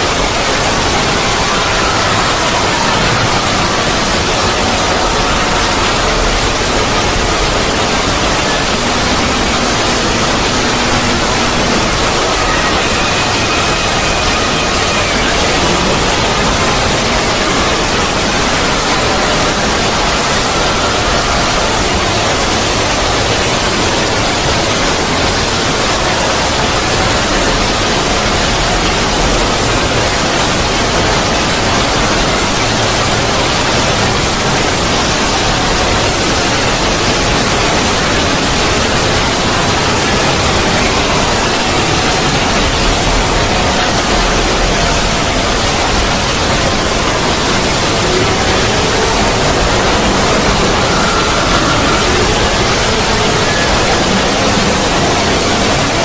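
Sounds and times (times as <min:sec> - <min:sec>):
loud synthetic noise rush: 0:00.0 - 0:56.0.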